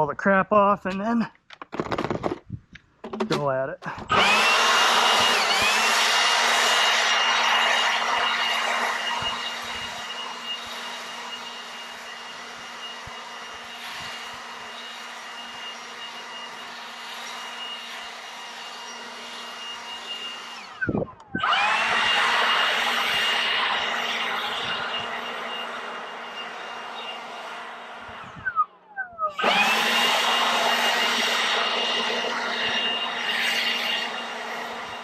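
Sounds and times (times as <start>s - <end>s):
leaf blower whining: 3.0s - 35.0s.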